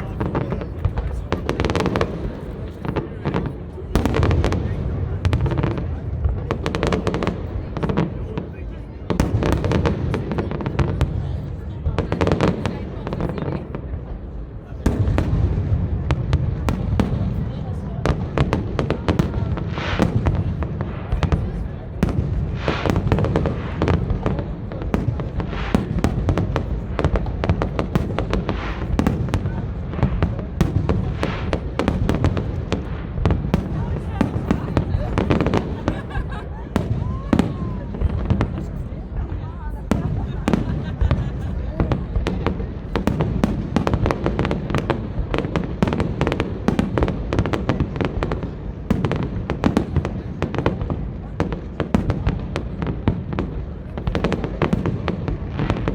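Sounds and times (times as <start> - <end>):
fireworks bangs and cracks: 0.0 - 55.9.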